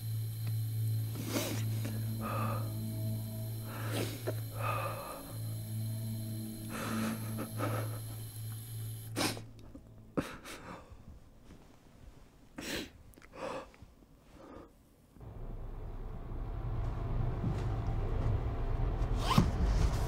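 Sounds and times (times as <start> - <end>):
low steady hum: 0.0 - 12.5, 15.1 - 20.0.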